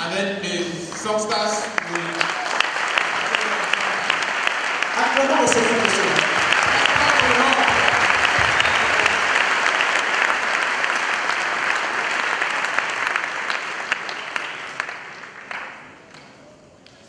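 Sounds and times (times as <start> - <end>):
congregation clapping: 0.8 - 17.0.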